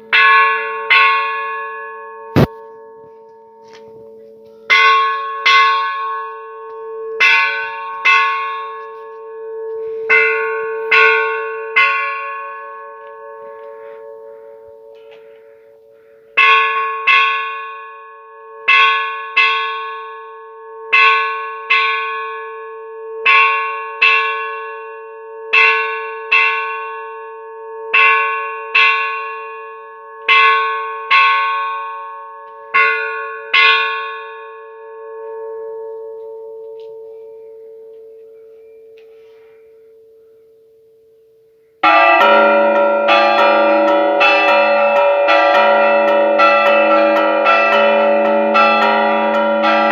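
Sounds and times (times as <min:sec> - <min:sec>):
church bell strokes: 0:00.0 - 0:49.9.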